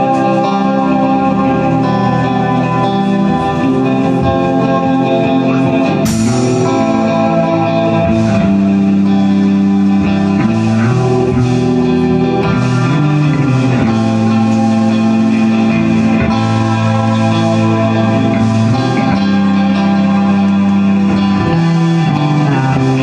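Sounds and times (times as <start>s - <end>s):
drums: 0.0s - 23.0s
electric bass line: 0.0s - 23.0s
electric guitar: 0.0s - 23.0s.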